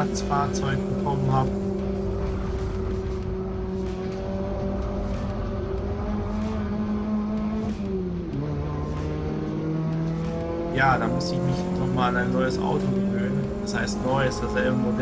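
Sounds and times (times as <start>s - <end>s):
race car engine at full throttle: 0.0s - 15.0s
road and wind noise: 0.0s - 15.0s.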